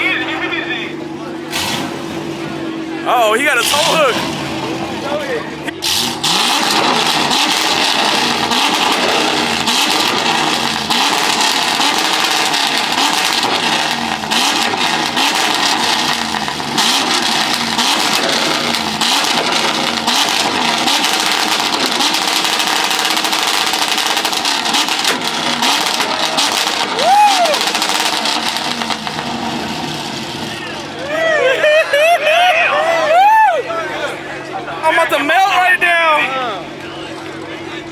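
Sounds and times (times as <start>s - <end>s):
car engine revving: 0.8s - 31.2s.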